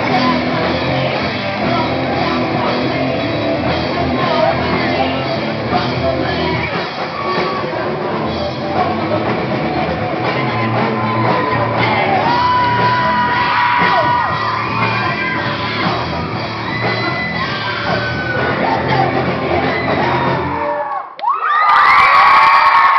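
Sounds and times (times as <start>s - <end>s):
bass guitar: 0.0s - 20.7s
drum kit: 0.0s - 20.7s
electric guitars: 0.0s - 20.7s.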